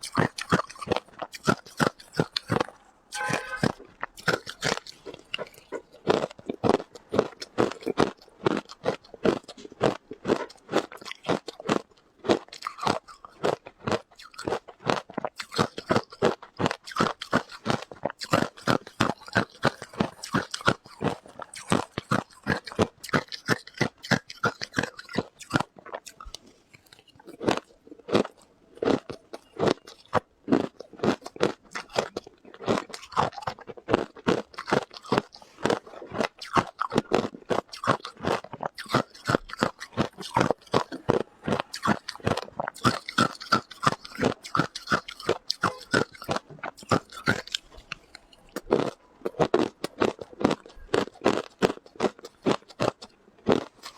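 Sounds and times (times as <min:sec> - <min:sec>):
person crunching ice: 0:00.0 - 0:53.9.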